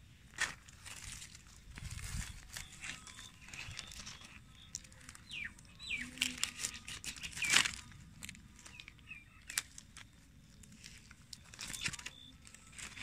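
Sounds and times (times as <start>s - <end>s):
dry leaves rustling and crackling: 0.3s - 13.0s.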